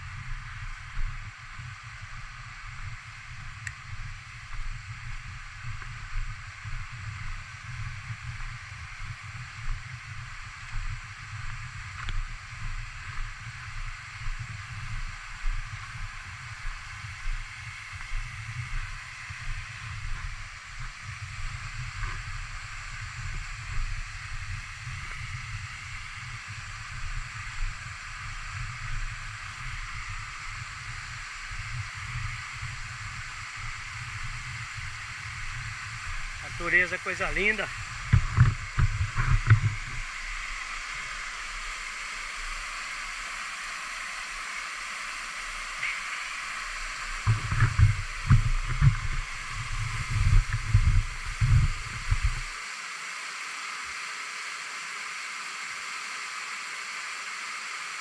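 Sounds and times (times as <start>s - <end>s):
wind buffeting microphone: 0.0s - 41.9s, 45.8s - 52.6s.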